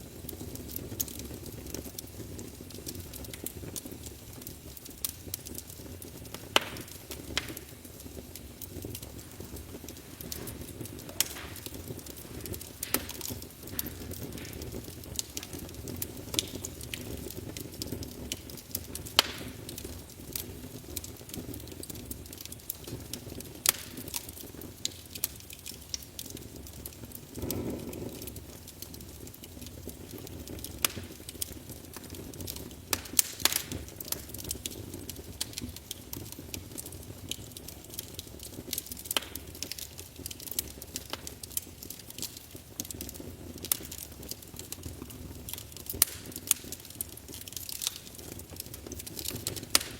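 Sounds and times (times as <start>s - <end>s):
low rush of flame: 0.0s - 42.3s
wood fire crackling and popping: 0.0s - 49.9s.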